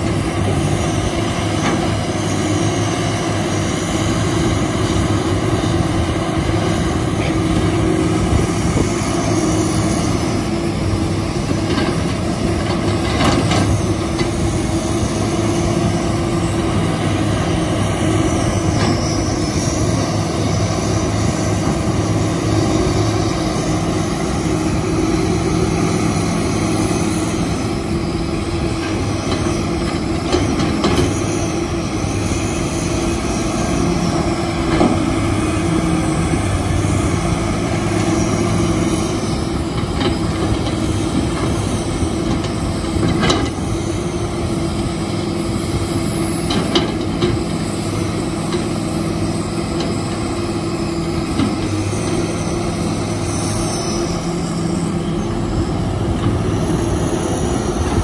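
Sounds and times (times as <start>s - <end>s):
excavator diesel engine drone: 0.0s - 58.0s.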